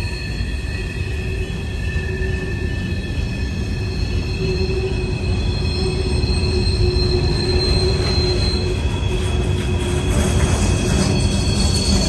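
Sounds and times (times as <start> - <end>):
rumble of passing railcars: 0.0 - 12.0
train wheels squealing: 0.0 - 12.0.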